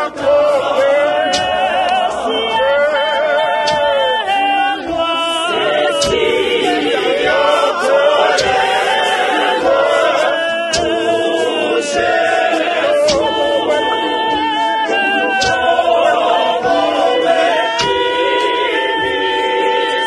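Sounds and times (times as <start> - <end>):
mixed choir singing a cappella: 0.0 - 20.0.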